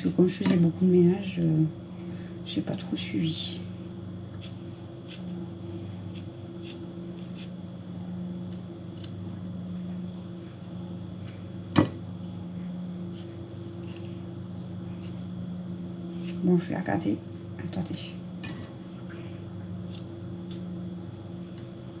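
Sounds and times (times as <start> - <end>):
appliance electrical hum: 0.0 - 22.0.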